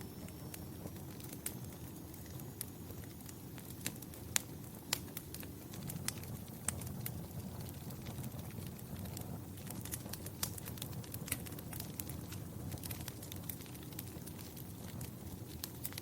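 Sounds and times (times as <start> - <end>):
fire crackling: 0.0 - 16.0
sharp pops of fire: 0.0 - 16.0.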